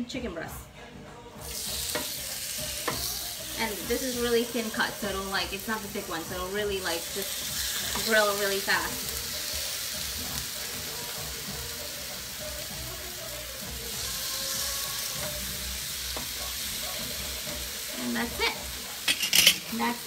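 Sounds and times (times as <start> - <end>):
chicken sizzling in grill pan: 1.4 - 20.0.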